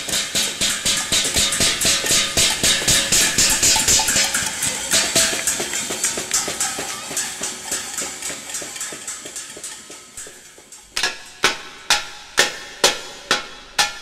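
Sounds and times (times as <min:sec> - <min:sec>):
metal pot being banged: 0:00.0 - 0:14.0.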